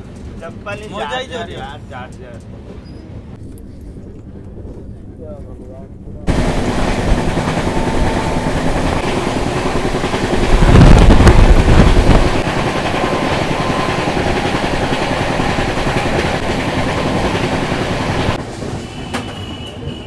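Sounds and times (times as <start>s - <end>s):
train rushing rumble on track: 0.0s - 20.0s.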